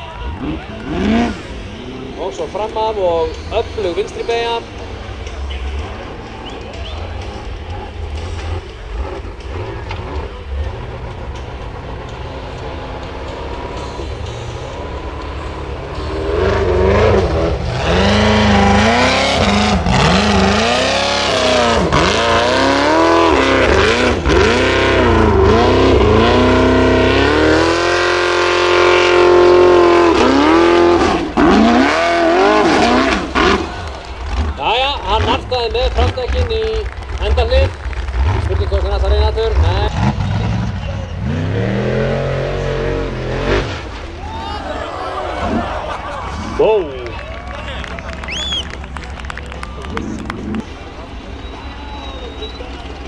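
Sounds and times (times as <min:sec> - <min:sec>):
buggy engine revving: 0:00.0 - 0:53.0.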